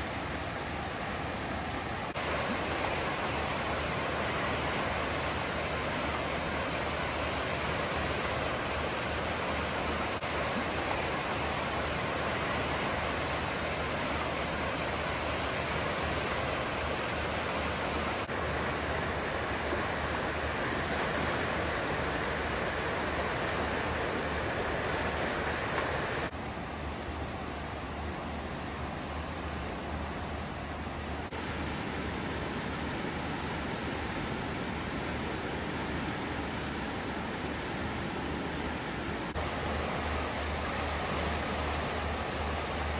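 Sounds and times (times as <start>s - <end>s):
floodwater rushing down river: 0.0s - 42.9s.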